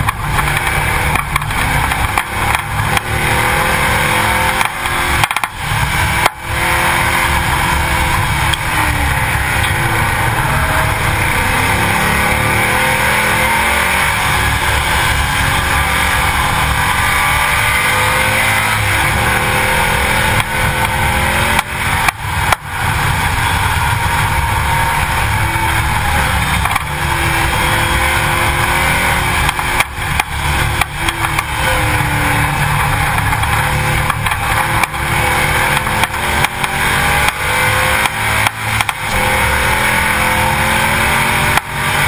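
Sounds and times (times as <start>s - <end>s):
race car engine: 0.0s - 42.0s
rush of wind and road noise: 0.0s - 42.0s.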